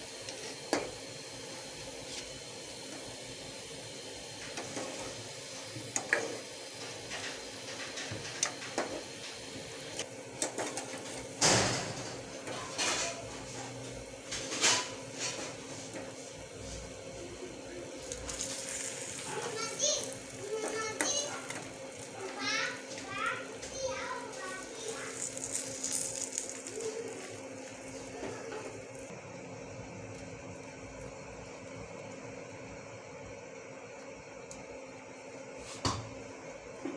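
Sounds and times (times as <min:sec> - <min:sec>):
faint sizzle of frying: 0:00.0 - 0:36.9.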